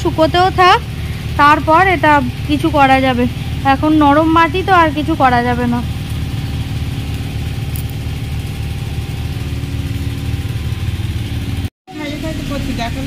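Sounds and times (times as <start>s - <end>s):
fire engine engines running: 0.0s - 13.0s.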